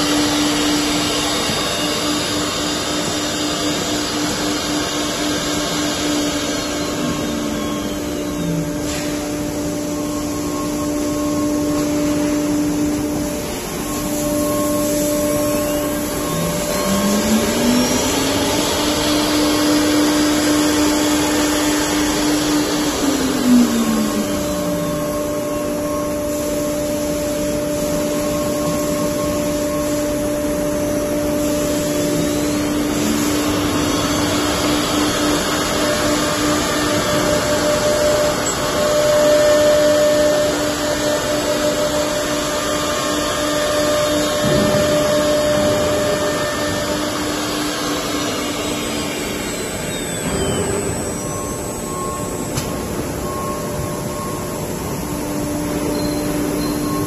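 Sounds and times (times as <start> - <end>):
router cutting and dust extraction: 0.0 - 26.1, 29.0 - 52.7
spindle motor whine: 0.0 - 57.0.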